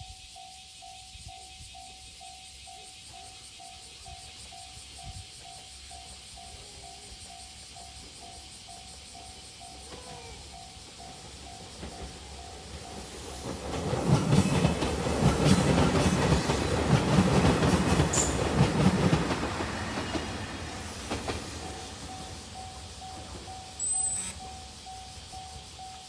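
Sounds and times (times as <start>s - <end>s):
crossing warning bell dinging: 0.0s - 26.0s
wheels clacking on rails: 1.2s - 26.0s
diesel train engine: 2.0s - 26.0s.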